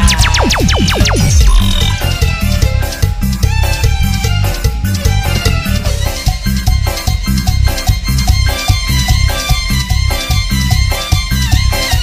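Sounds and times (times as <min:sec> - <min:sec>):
latin dance music: 0:00.0 - 0:12.0.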